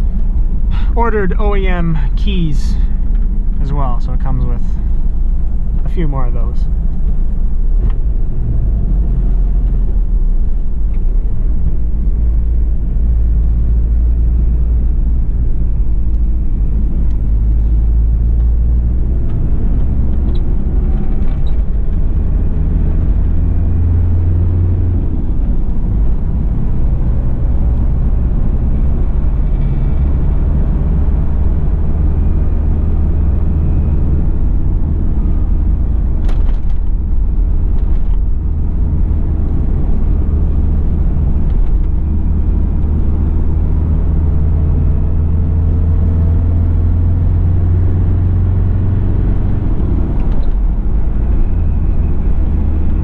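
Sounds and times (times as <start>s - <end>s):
diesel engine droning: 0.0s - 53.0s
road and tyre noise: 0.0s - 53.0s.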